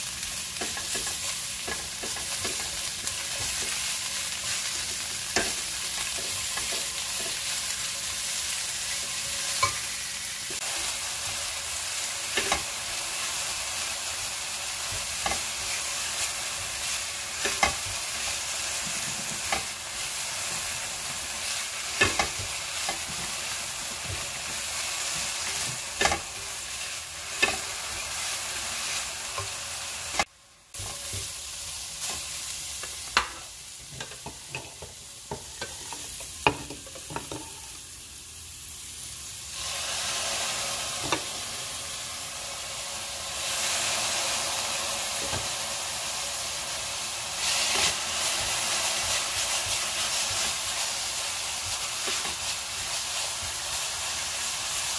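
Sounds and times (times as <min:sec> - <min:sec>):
vegetables sizzling in a pan: 0:00.0 - 0:54.9.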